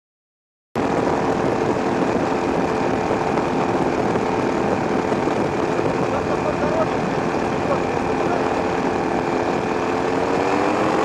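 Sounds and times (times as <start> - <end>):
engine drone: 0.8 - 11.0.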